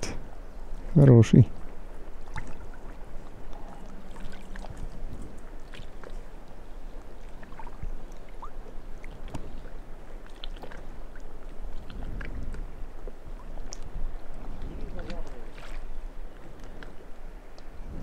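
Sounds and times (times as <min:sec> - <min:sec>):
water lapping with splashes: 0:00.1 - 0:18.0.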